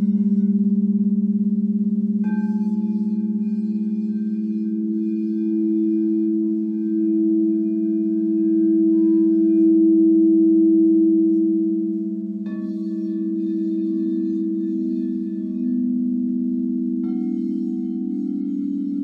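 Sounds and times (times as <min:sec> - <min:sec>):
singing bowls droning: 0:00.0 - 0:19.0.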